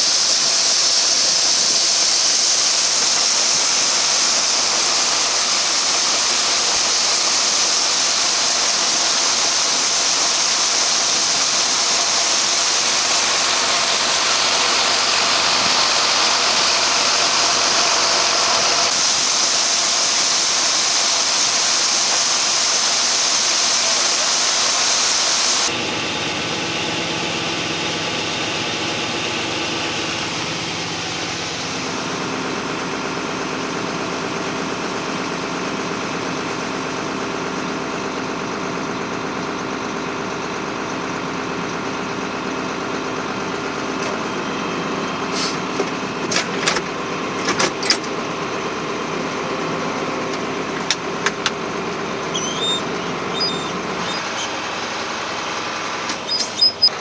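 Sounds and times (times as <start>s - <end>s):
farm machinery rushing noise: 0.0s - 35.9s, 39.4s - 57.0s
engine drone with hum: 0.0s - 57.0s.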